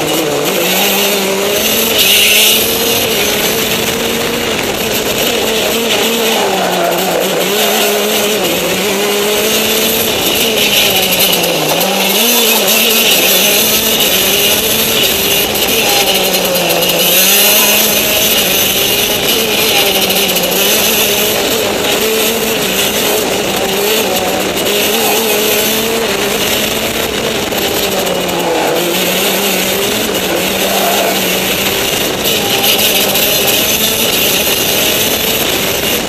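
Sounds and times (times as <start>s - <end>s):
racing kart engine running hard: 0.0s - 36.0s.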